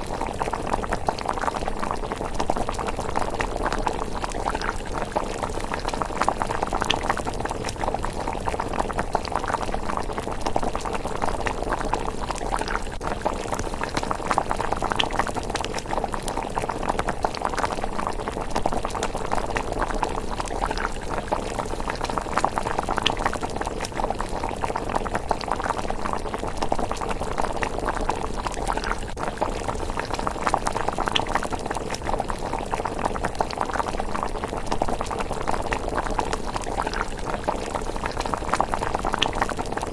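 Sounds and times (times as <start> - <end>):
porridge bubbling in a pot: 0.0 - 39.9.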